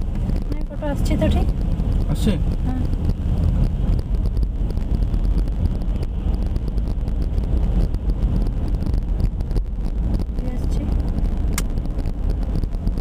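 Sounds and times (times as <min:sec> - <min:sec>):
road and engine rumble: 0:00.0 - 0:13.0
wind buffeting microphone: 0:00.0 - 0:13.0.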